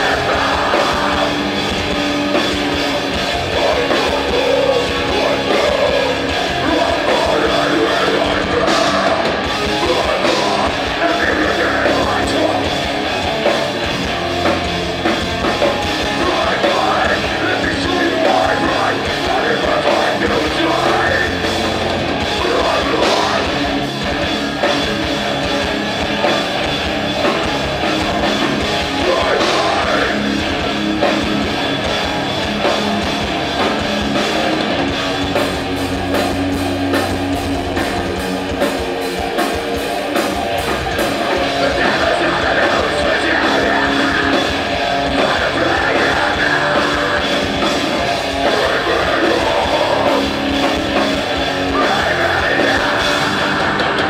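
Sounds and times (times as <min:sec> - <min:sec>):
live punk band playing: 0:00.0 - 0:54.0.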